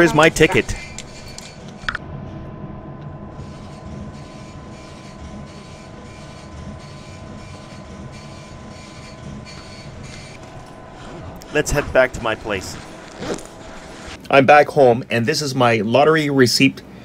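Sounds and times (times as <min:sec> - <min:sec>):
low machine hum: 0:00.0 - 0:16.1.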